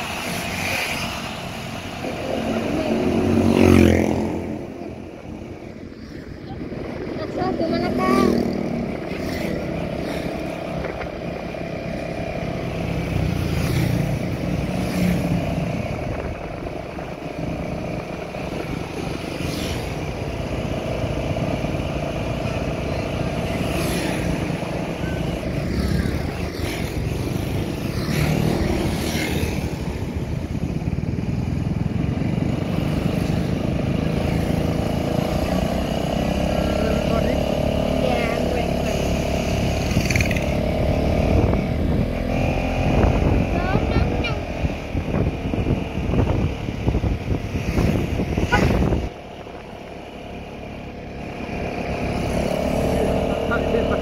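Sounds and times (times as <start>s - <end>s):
motorcycle engine cruising: 0.0s - 54.0s
passing traffic swishes: 0.0s - 54.0s
wind and road noise: 0.0s - 54.0s.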